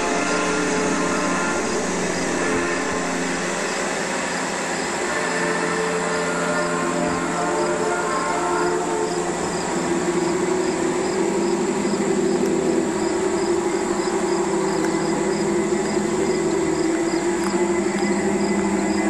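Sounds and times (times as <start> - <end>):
insects chirping: 0.0 - 19.0
model train rolling hum: 0.0 - 19.0.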